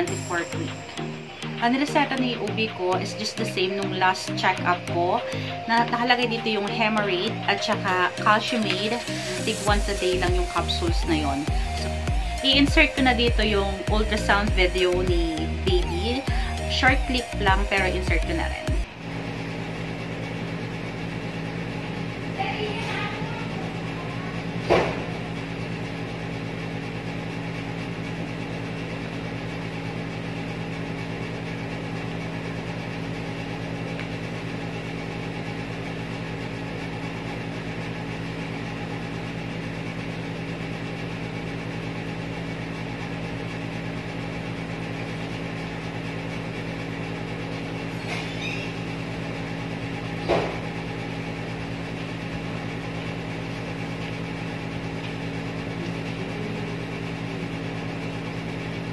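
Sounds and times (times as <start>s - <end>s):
machine hum: 0.0s - 58.9s.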